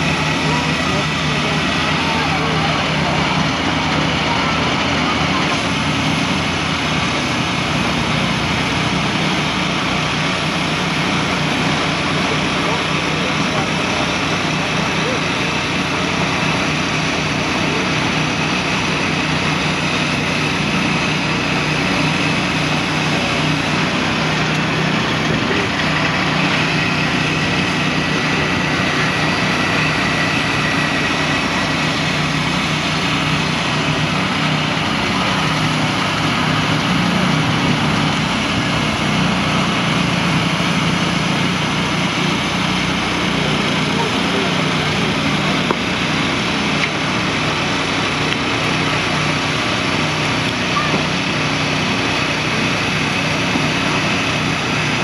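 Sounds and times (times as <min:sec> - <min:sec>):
sawmill engine droning: 0:00.0 - 0:55.0.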